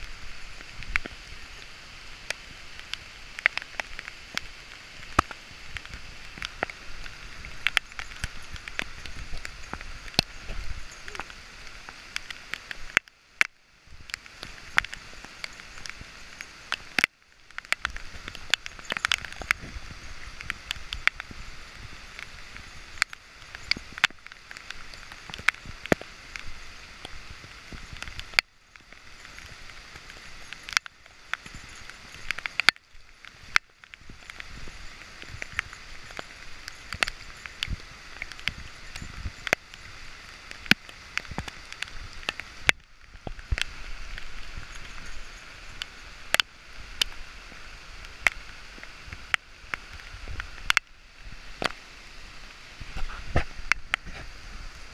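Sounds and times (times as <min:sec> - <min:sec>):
raindrops tapping on camera housing: 0:00.0 - 0:51.8, 0:52.4 - 0:54.9
steady rain hissing: 0:00.0 - 0:54.9.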